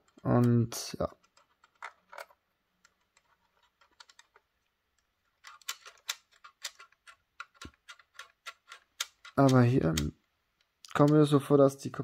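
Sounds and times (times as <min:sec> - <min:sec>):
small plastic clicks: 0:00.0 - 0:11.4.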